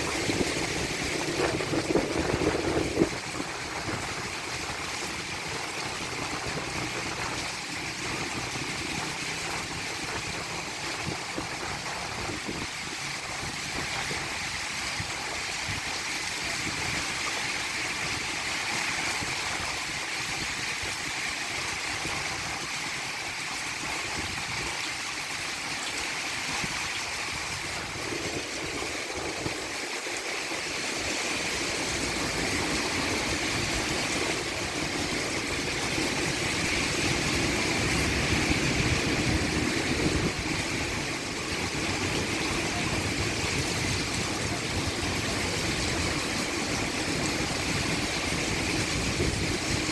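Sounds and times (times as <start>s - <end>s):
heavy rain on a roof: 0.0s - 49.9s
water running off eaves: 0.0s - 49.9s.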